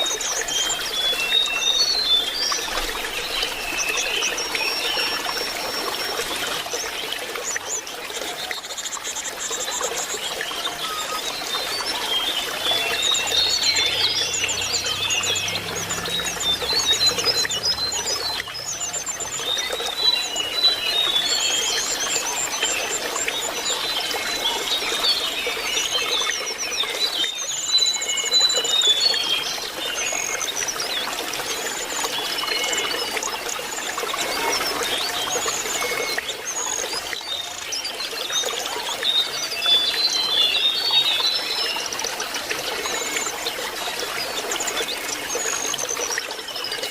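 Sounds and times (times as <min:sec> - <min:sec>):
trickle of running water: 0:00.0 - 0:46.9.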